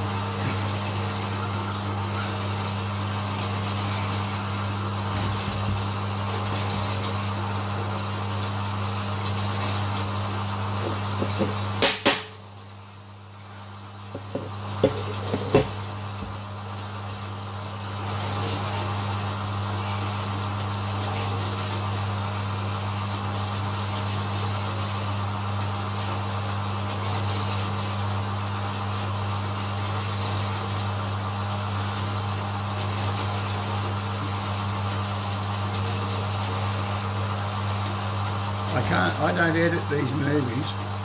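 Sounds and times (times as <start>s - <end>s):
high hiss of saw blade cutting: 0.0s - 12.4s, 14.8s - 41.0s
bandsaw motor hum: 0.0s - 41.0s.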